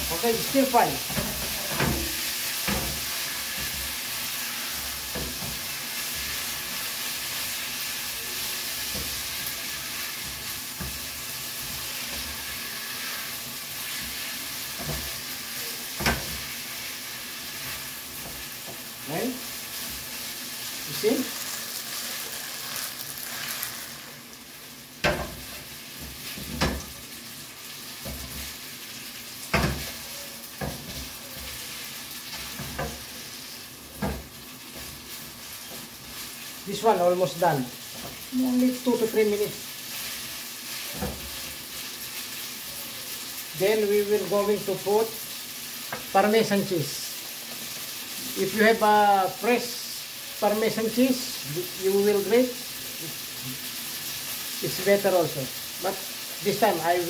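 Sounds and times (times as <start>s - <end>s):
spaghetti sizzling in a pan: 0.0s - 57.0s.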